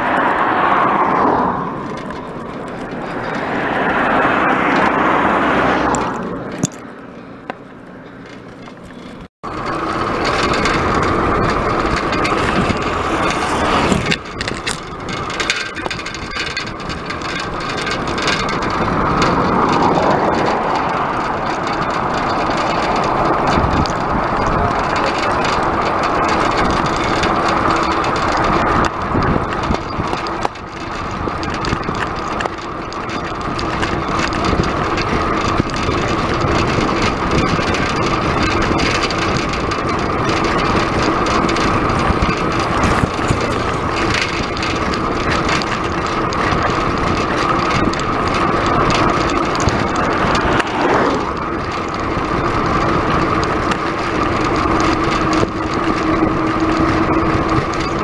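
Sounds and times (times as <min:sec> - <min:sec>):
wind on microphone: 0:00.0 - 0:06.9, 0:09.4 - 0:58.0
bicycle tyres on asphalt: 0:00.0 - 0:58.0.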